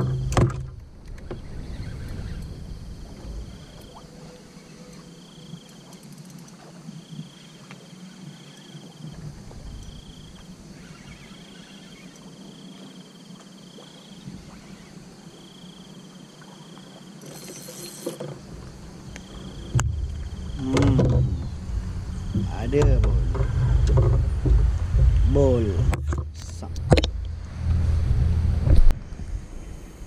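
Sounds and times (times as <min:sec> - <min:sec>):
insect chirping trills: 0:00.0 - 0:30.0.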